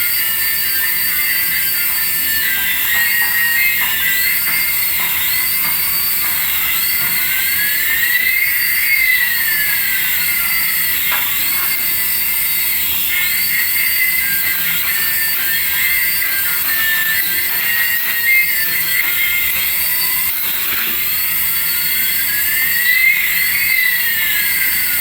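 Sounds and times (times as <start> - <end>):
rising and falling toy tone: 0.0 - 25.0
toy warbling beeps: 1.2 - 25.0.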